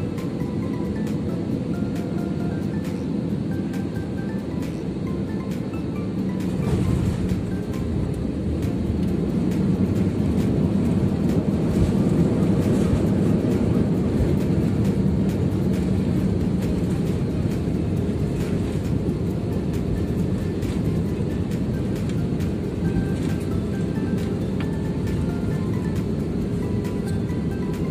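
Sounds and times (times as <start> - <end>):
airliner cabin rumble: 0.0 - 27.9
low hum: 0.0 - 27.9.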